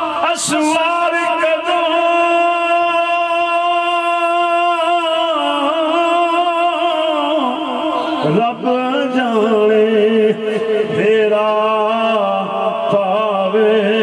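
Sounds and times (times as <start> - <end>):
man singing devotional verse: 0.0 - 14.0.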